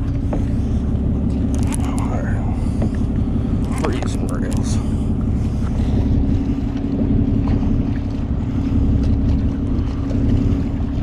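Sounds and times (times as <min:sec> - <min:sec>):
boat engine rumbling: 0:00.0 - 0:11.0
wind buffeting microphone: 0:00.0 - 0:11.0.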